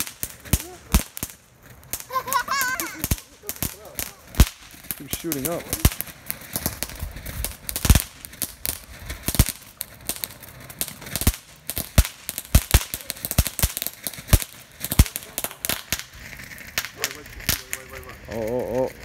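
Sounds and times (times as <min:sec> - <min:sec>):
faint hiss of sparks: 0:00.0 - 0:19.0
firework fountain crackling pops: 0:00.0 - 0:19.0.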